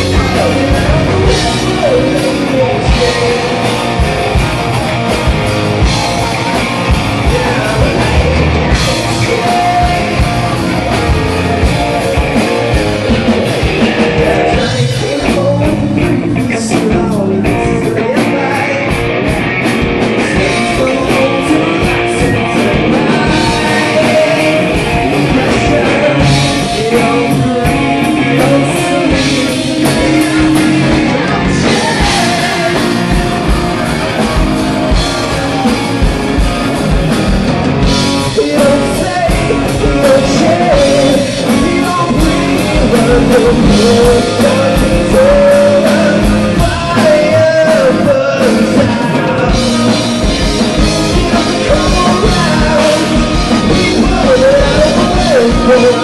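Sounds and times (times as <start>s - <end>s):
drum kit: 0.0s - 56.0s
electric bass: 0.0s - 56.0s
electric guitars: 0.0s - 56.0s
man singing lead vocals: 0.0s - 56.0s.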